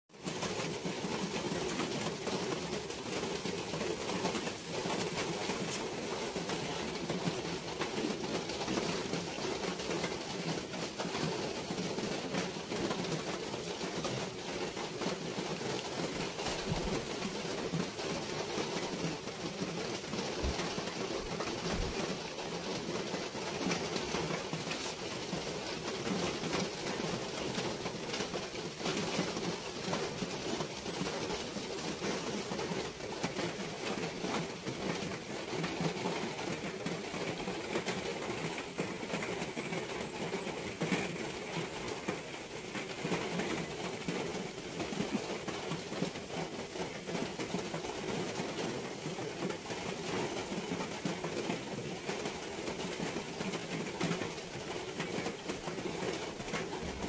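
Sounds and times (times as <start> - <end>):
steady outdoor hiss: 0.2 - 57.0.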